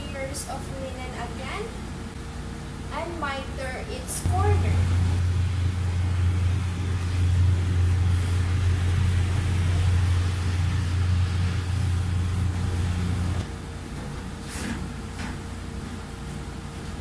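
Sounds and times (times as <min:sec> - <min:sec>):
steady low rumble: 0:00.0 - 0:13.8.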